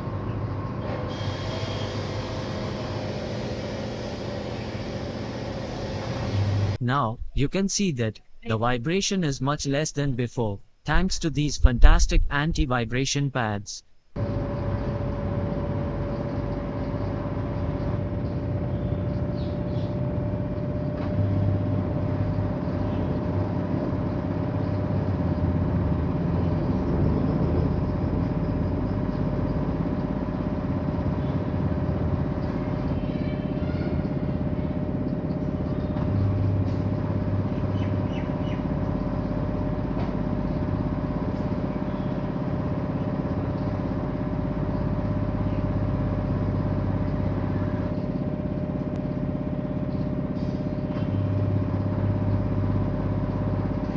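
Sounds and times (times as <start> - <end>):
washing machine spinning: 0.0 - 6.8, 14.2 - 53.9.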